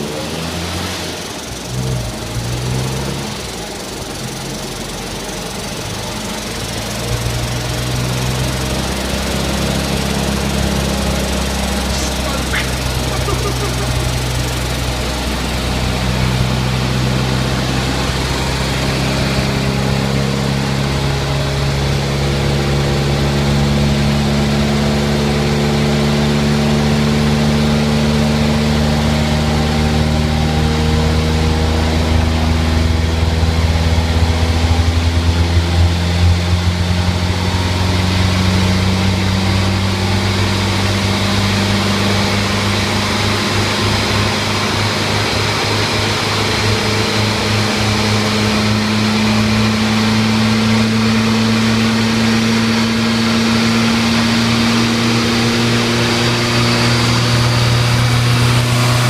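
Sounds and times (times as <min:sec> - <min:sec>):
car engine revving under load: 0:00.0 - 0:59.0.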